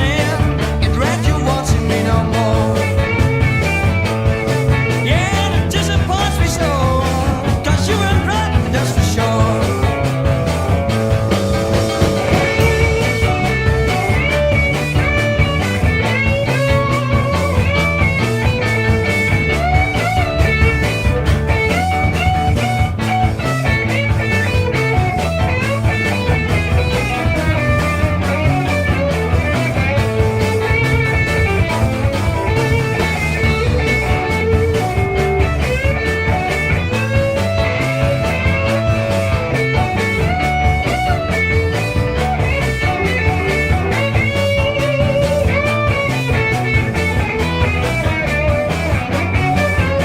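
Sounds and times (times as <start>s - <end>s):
bass: 0.0s - 50.0s
drums: 0.0s - 50.0s
electric lead guitar bending notes: 0.0s - 50.0s.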